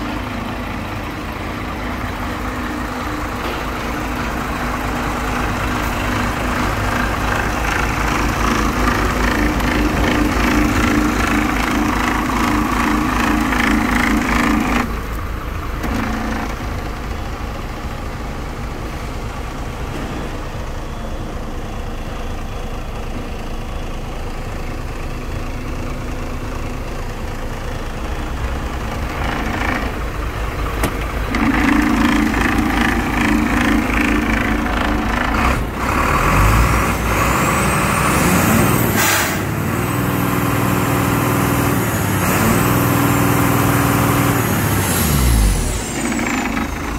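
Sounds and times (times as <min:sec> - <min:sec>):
truck diesel engine idling: 0:00.0 - 0:46.9.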